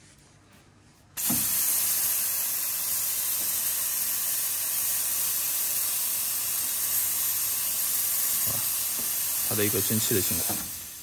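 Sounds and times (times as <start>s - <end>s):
steam wand hissing: 1.2s - 11.0s.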